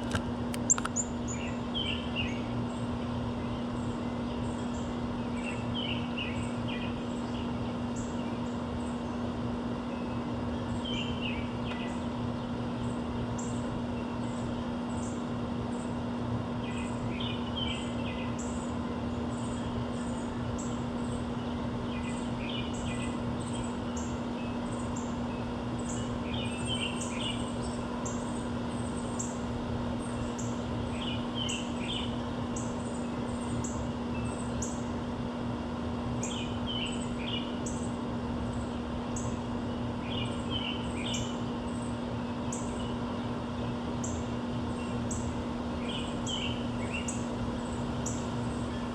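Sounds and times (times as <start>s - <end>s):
songbirds chirping: 0.0s - 48.9s
steady low hum: 0.0s - 48.9s.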